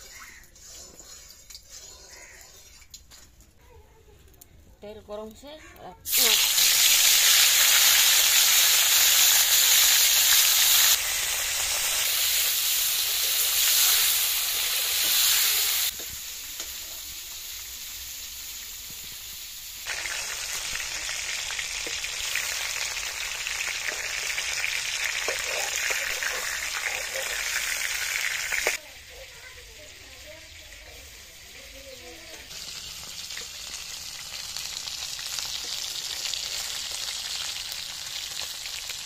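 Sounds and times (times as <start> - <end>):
fish sizzling in hot oil: 6.1 - 39.0.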